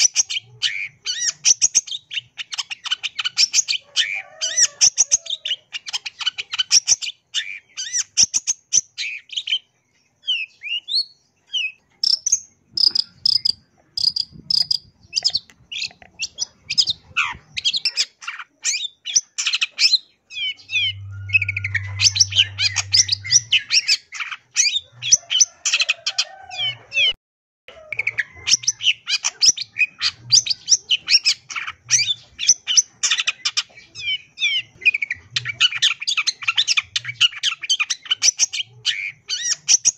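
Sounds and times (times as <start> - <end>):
bird chattering song: 0.0 - 26.0, 27.8 - 39.9.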